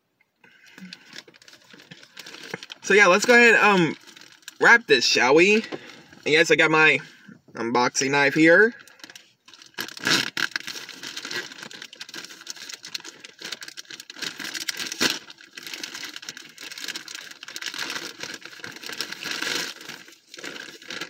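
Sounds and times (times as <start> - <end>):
plastic bag crinkling: 0.6 - 6.4, 8.7 - 21.0.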